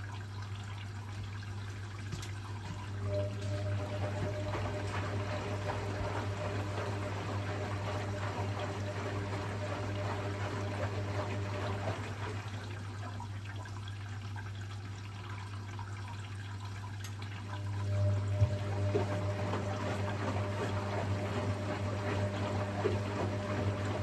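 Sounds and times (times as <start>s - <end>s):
water pouring into washing machine: 0.0s - 24.0s.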